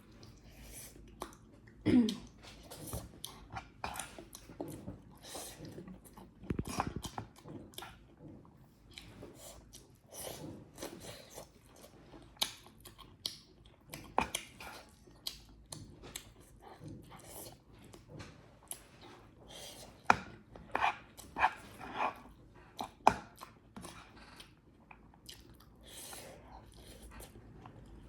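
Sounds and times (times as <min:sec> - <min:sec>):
chewing and mouth sounds: 0:00.1 - 0:28.0.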